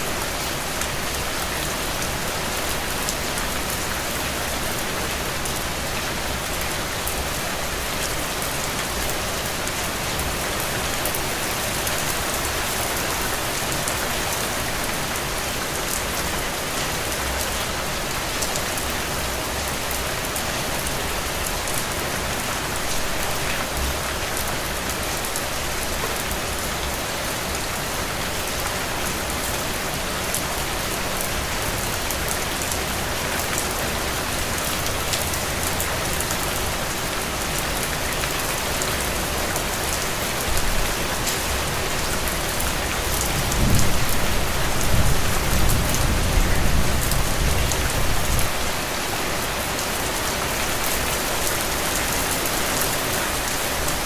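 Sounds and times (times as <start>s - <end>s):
heavy rain on ground: 0.0s - 54.0s.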